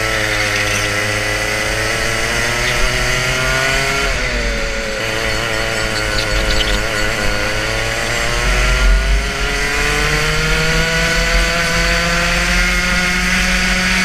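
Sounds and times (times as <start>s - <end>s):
two-stroke kart engine buzzing: 0.0s - 14.0s.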